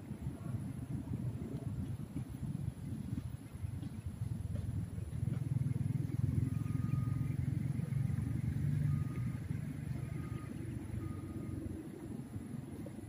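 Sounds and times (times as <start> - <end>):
vehicle engine running: 1.9 - 13.0.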